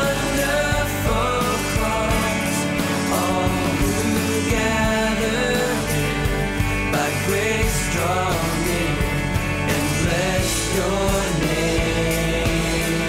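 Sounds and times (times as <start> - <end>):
worship song with band and singer: 0.0 - 13.0.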